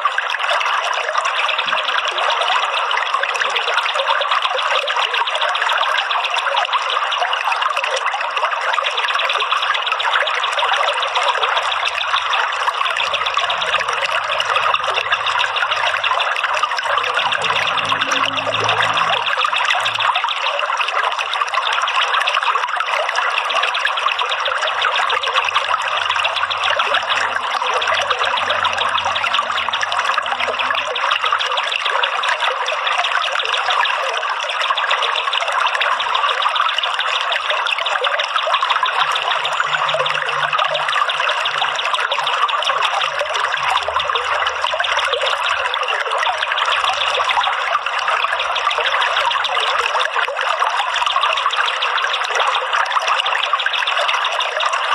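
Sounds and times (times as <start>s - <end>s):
trickling stream: 0.0s - 54.9s.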